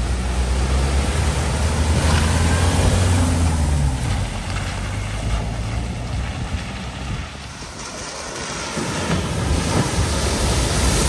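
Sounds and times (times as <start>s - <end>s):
motorhome engine running: 0.0s - 11.0s
water rushing: 0.0s - 11.0s
wet tyres on road: 0.0s - 11.0s.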